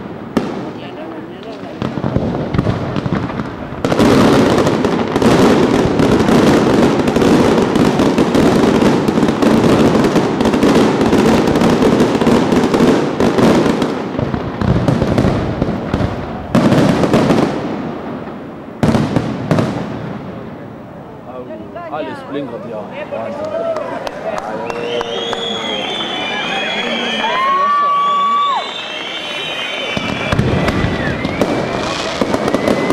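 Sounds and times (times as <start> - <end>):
fireworks banging and crackling: 0.0 - 32.9.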